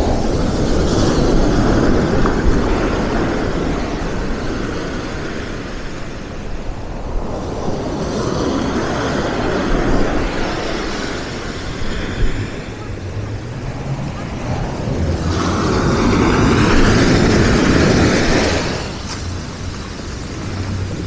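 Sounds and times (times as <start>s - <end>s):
waves washing on a pebble beach: 0.0s - 21.0s.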